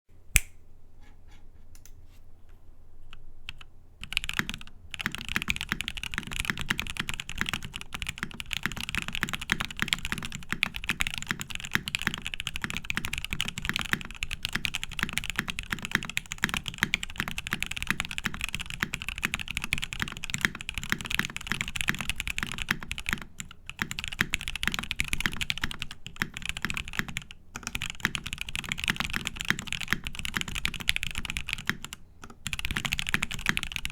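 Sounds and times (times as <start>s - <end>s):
mechanical keyboard typing: 3.5s - 33.9s.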